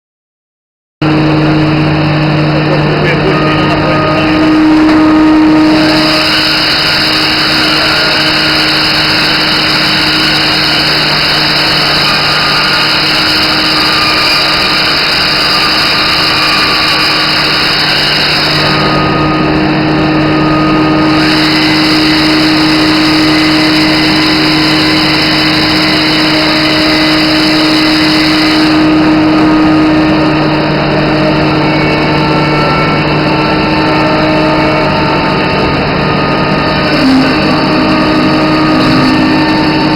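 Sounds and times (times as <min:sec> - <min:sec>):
woodworking machine humming: 0:01.0 - 0:39.9.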